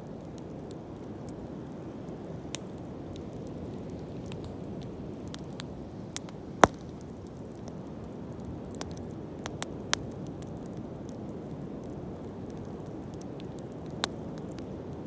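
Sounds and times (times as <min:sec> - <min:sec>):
bonfire burning with low rush: 0:00.0 - 0:15.0
fire crackles and pops: 0:00.0 - 0:15.0.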